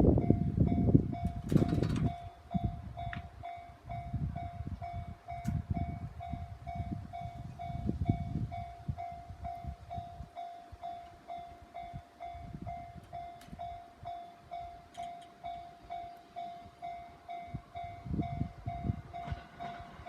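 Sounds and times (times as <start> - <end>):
level crossing warning bell: 0.0 - 20.0
train rumbling: 0.0 - 20.0.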